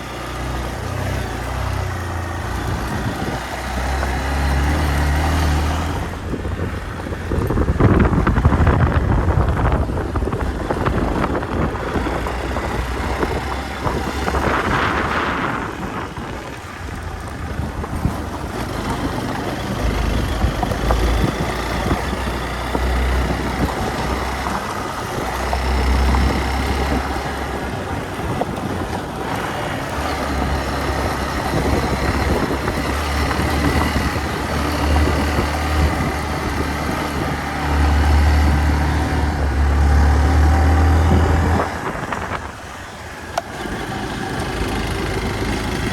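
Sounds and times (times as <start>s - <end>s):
motorcycle engine running: 0.0s - 45.9s
wind on microphone: 0.0s - 45.9s.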